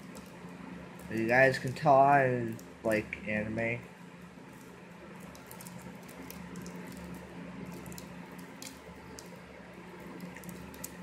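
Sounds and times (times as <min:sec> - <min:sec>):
cellophane crinkling: 0:00.0 - 0:03.2, 0:04.3 - 0:11.0
faint low hum: 0:00.0 - 0:11.0.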